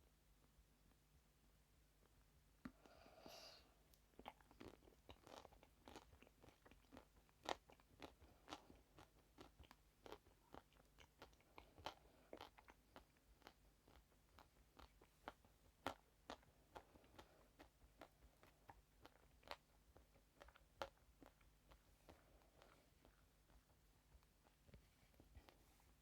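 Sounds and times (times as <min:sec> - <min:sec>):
person chewing crunchy food: 0:04.0 - 0:25.6.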